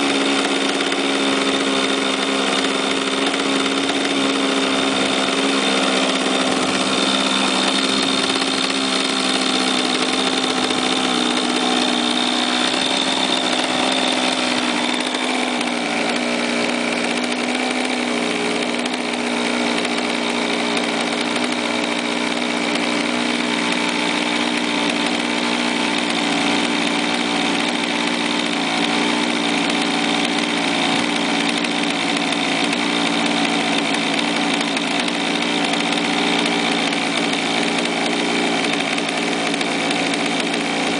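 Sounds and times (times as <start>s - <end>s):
model plane engine running: 0.0s - 40.9s.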